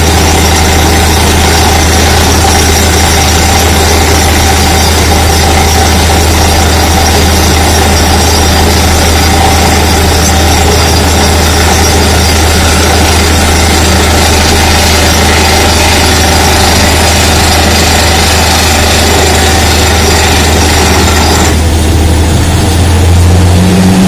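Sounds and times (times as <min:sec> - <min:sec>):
deep hum: 0:00.0 - 0:24.0
drilling rig running: 0:00.0 - 0:24.0.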